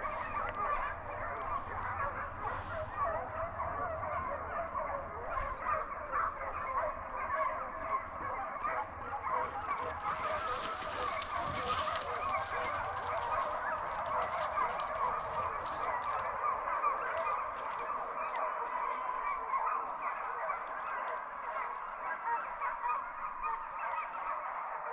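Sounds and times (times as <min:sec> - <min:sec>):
hounds baying: 0:00.0 - 0:24.9.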